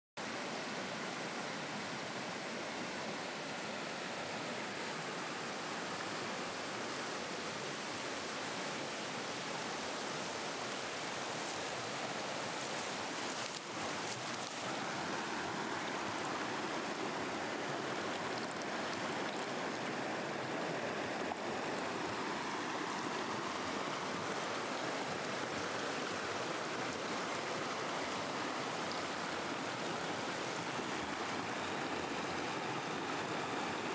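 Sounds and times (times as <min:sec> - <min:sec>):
river rushing over rocks: 0:00.2 - 0:33.9.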